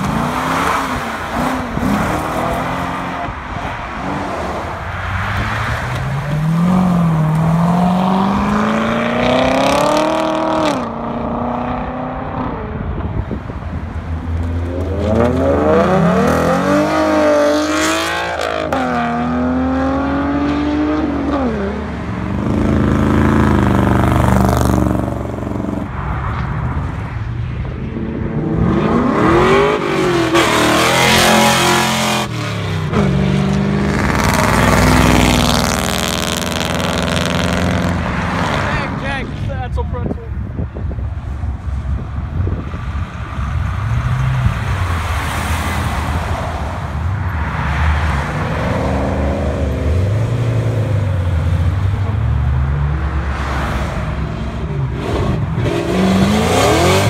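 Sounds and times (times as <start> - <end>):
cars accelerating hard: 0.0 - 39.8, 40.8 - 57.0.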